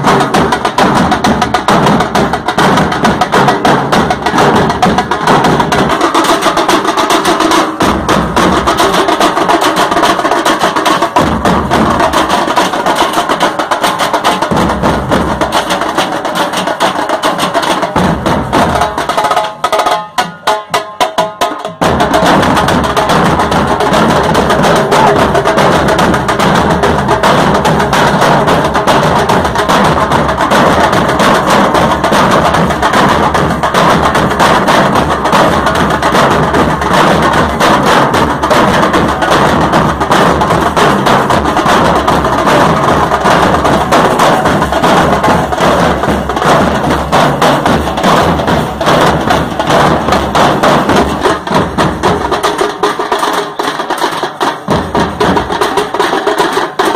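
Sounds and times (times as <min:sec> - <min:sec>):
dhol drums beaten with sticks: 0:00.0 - 0:56.9.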